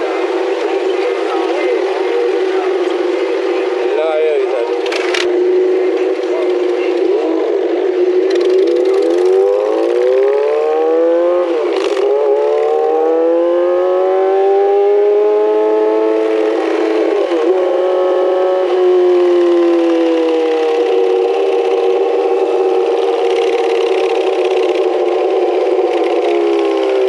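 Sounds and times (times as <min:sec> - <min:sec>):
motorcycle engine pulling hard: 0:00.2 - 0:27.0.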